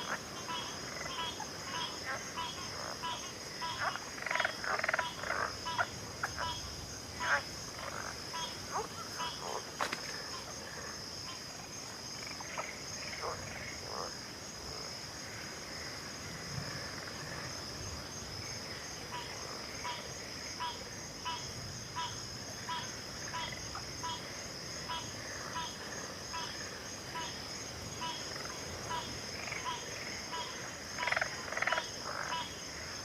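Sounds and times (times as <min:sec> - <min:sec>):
frogs calling: 0:00.0 - 0:33.0.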